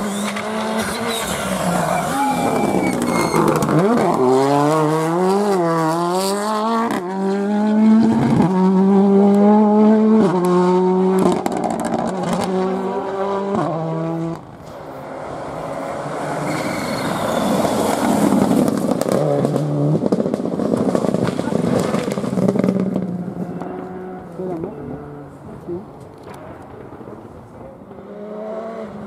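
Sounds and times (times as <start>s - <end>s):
distant car engine: 0.0s - 29.0s
rally car engine at full throttle: 0.0s - 29.0s
road noise: 0.0s - 29.0s.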